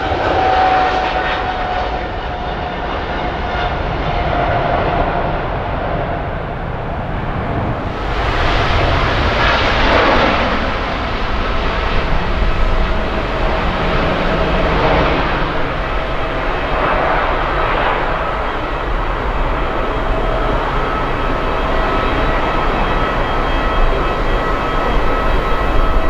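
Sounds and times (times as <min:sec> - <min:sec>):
jet engines roaring: 0:00.0 - 0:26.0
faint engine whine: 0:02.2 - 0:26.0.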